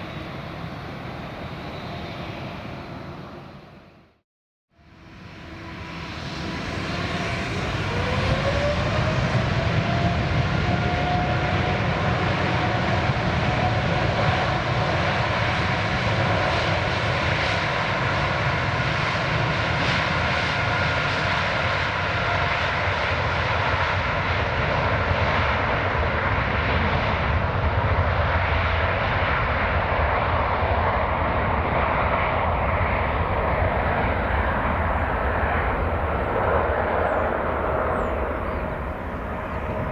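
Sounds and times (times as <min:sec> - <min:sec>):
jet engines at takeoff power: 0:00.0 - 0:04.2, 0:04.8 - 0:39.9.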